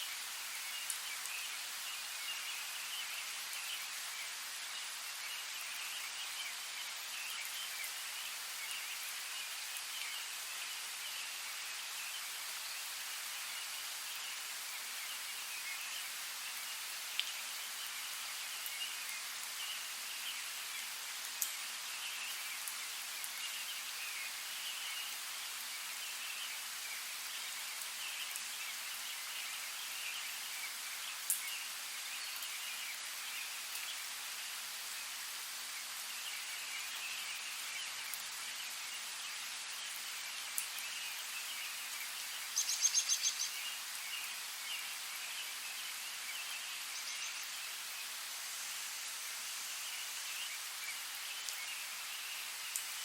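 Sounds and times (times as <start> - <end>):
steady rain in forest: 0.0 - 53.0.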